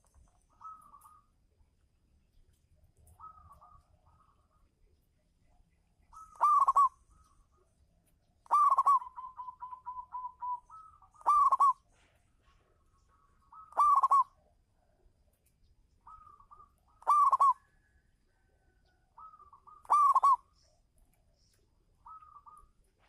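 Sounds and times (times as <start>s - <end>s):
dove cooing with rolling trill: 0.0s - 1.5s, 2.8s - 7.7s, 8.4s - 15.3s, 16.0s - 20.8s, 21.5s - 23.0s.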